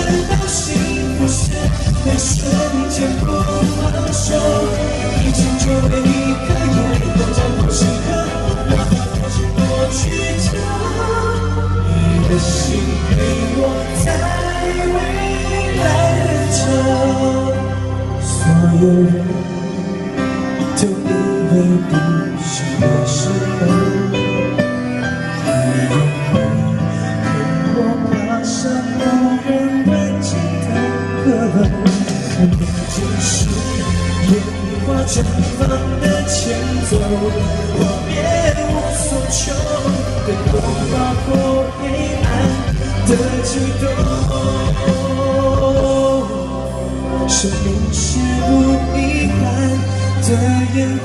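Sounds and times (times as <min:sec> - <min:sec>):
live pop ballad with guitar: 0:00.0 - 0:51.0
man singing: 0:00.0 - 0:51.0.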